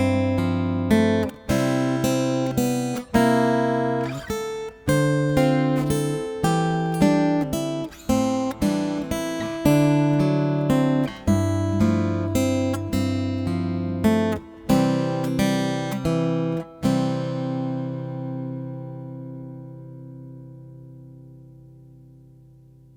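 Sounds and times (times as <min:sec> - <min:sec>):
acoustic guitar melody: 0:00.0 - 0:22.9.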